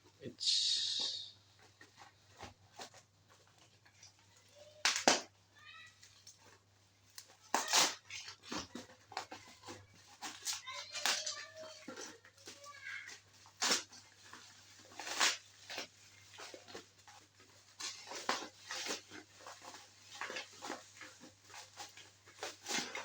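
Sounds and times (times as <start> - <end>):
parcel wrapping crinkling and ripping: 1.5 - 23.0.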